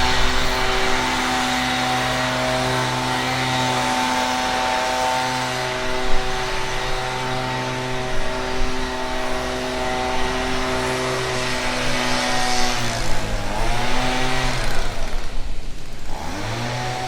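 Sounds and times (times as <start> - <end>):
chainsaw engine running: 0.0 - 17.0.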